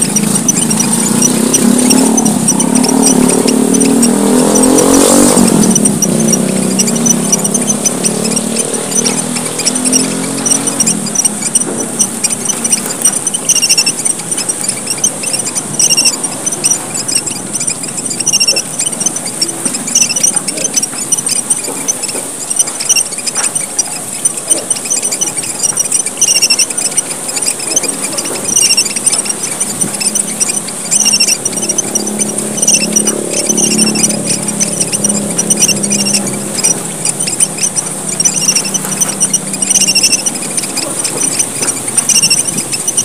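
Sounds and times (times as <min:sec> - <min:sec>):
finches chirping: 0:00.0 - 0:43.0.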